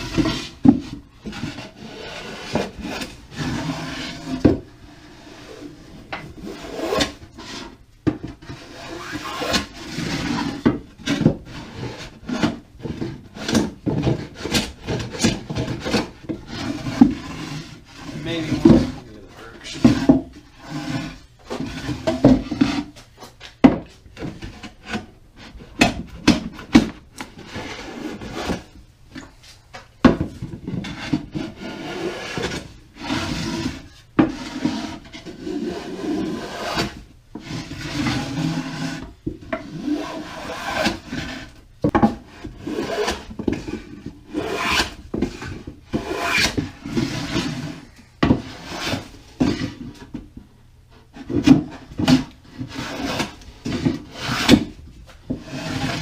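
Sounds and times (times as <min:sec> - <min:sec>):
hand plane shaving wood: 0:00.0 - 0:07.7, 0:08.4 - 0:23.0, 0:30.7 - 0:49.9, 0:52.0 - 0:56.0.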